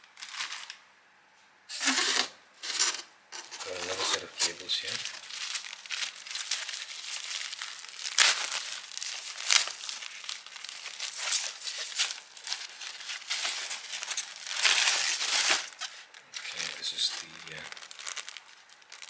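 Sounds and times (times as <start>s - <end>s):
plastic packing crinkling: 0.0s - 0.8s, 1.7s - 19.0s.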